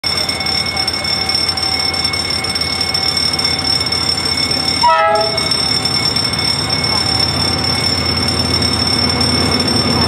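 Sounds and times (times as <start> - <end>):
crossing signal ringing tone: 0.0 - 10.0.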